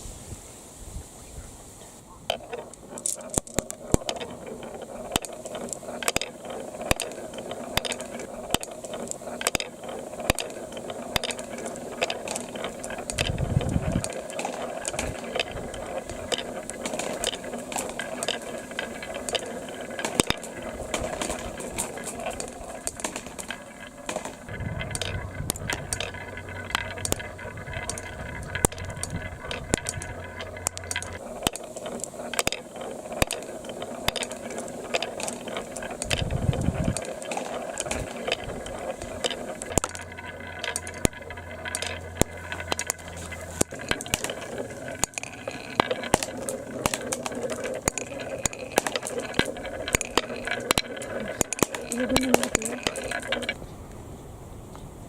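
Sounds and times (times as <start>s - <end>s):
low hum: 2.1s - 54.0s
plastic marbles clicking on a run: 2.2s - 53.6s.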